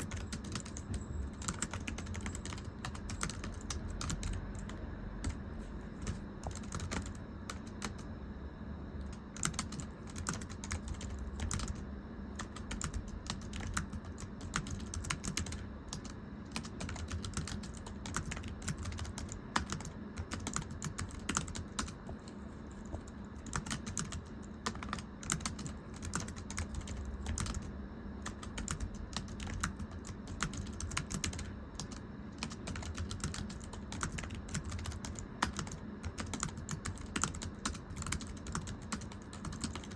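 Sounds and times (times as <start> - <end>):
typing on thin keyboard: 0.0 - 5.4, 6.0 - 8.0, 9.0 - 11.8, 12.4 - 22.0, 23.4 - 39.9.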